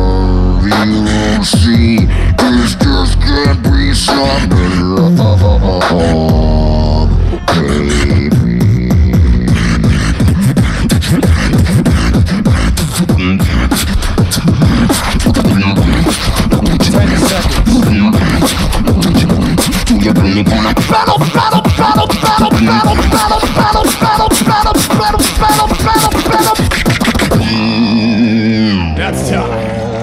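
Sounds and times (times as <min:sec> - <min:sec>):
beatboxing drum sounds: 0:00.0 - 0:28.8
high-pitched vocal line: 0:00.0 - 0:29.2
sung bass line: 0:00.0 - 0:30.0.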